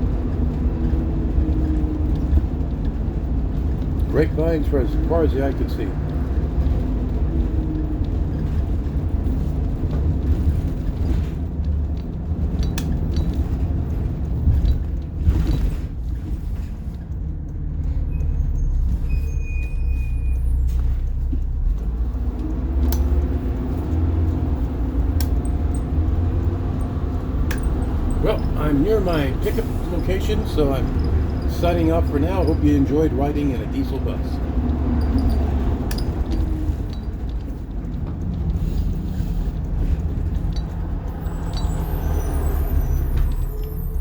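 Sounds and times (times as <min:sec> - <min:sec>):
bus diesel engine rumble: 0:00.0 - 0:44.0
road noise: 0:00.0 - 0:44.0.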